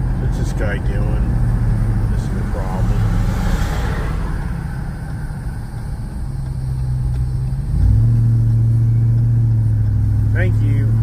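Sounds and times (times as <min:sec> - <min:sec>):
car engine at low revs: 0:00.0 - 0:11.0.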